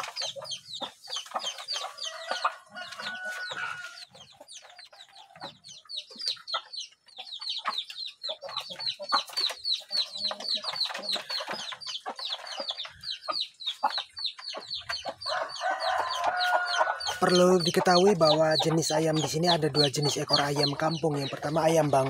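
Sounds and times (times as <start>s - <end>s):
chickens clucking: 0.0s - 22.0s
chicks peeping: 0.0s - 22.0s.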